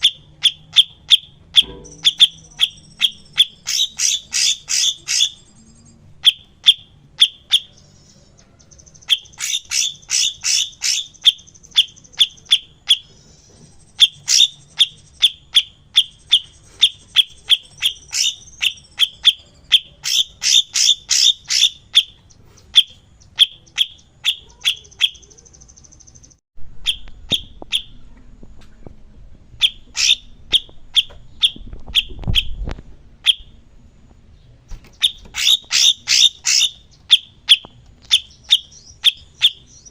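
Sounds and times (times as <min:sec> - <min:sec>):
high buzzy bird trill: 0:00.0 - 0:28.0, 0:29.6 - 0:32.6, 0:34.9 - 0:39.9
songbird repeated sharp notes: 0:00.0 - 0:28.0, 0:29.6 - 0:32.6, 0:33.2 - 0:33.6, 0:34.8 - 0:39.9.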